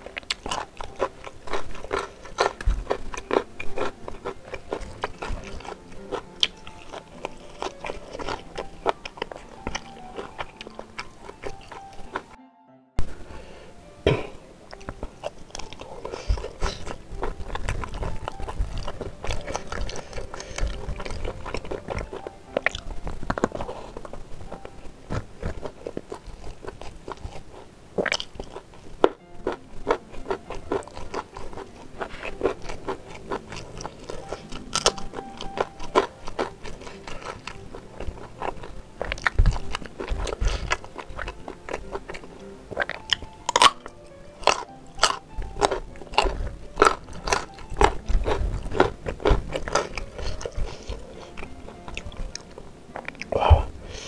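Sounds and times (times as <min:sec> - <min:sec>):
person chewing and biting: 0:00.0 - 0:12.3, 0:14.1 - 0:54.0.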